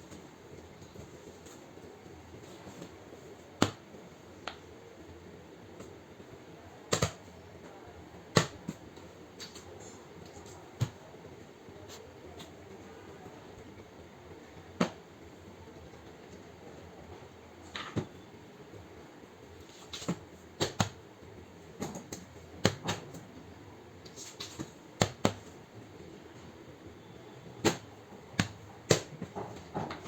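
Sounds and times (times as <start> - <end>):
low room hiss: 0.0 - 30.0.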